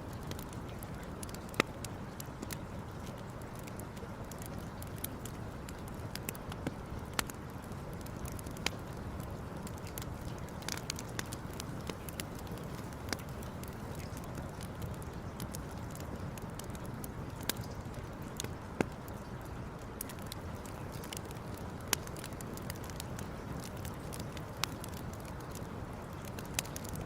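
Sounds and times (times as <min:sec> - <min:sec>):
crackles and pops of burning wood: 0:00.0 - 0:27.0.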